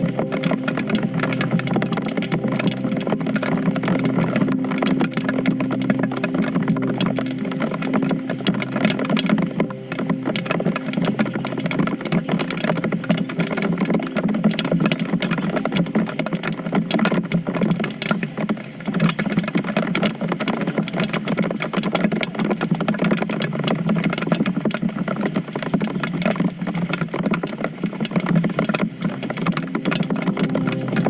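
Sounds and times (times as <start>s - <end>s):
heavy rain patter: 0.0s - 31.0s.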